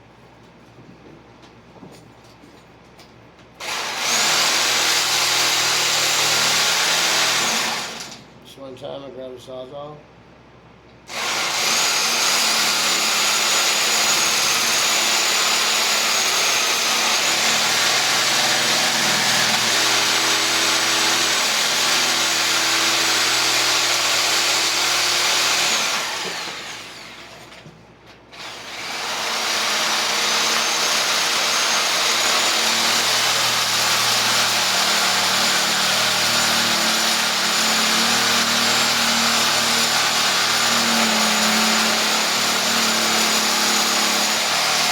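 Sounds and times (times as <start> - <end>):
reciprocating saw cutting wood: 3.6 - 8.2, 11.1 - 27.5, 28.4 - 44.9.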